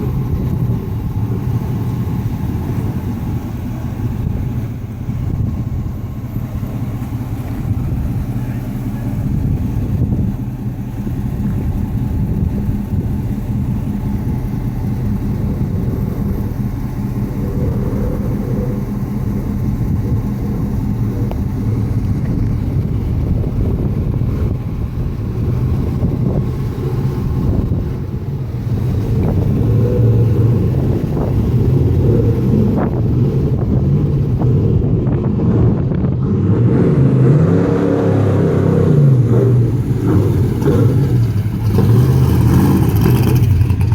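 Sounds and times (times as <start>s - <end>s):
car engine running while driving: 0.0s - 43.9s.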